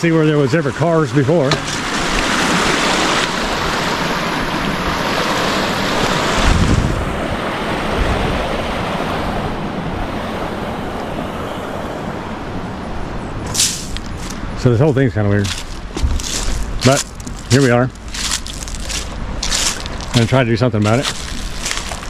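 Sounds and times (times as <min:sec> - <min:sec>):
creek rushing: 0:00.0 - 0:22.0
wind buffeting microphone: 0:01.5 - 0:22.0.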